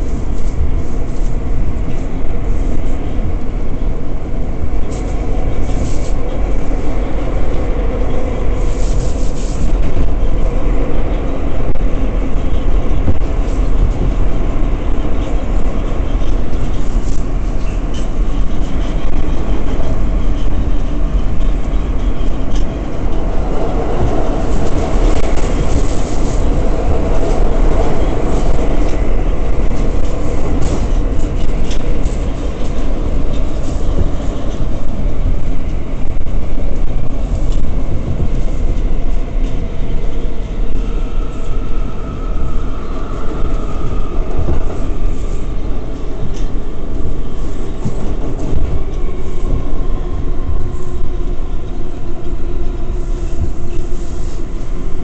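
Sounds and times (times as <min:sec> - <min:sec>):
subway wheels rumbling on rails: 0:00.0 - 0:55.0.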